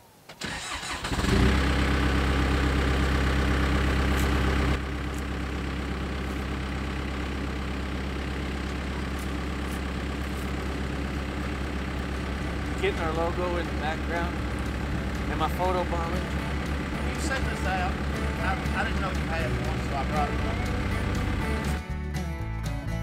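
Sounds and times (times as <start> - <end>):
diesel engine starting and idling: 0.4 - 22.8.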